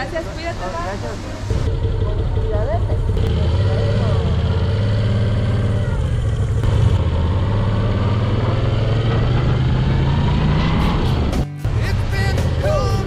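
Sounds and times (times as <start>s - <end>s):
motorcycle engine running: 1.4s - 13.0s.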